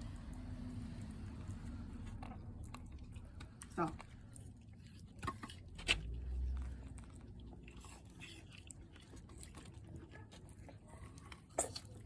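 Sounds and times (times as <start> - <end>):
tortoises chewing: 0.0 - 12.0.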